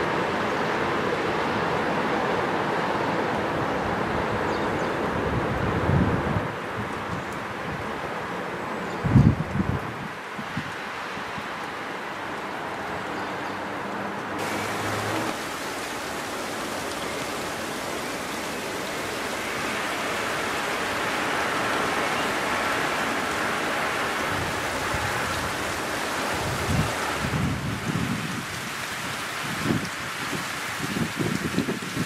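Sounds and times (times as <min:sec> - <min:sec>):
freezing rain and sleet hissing: 0:00.0 - 0:32.0.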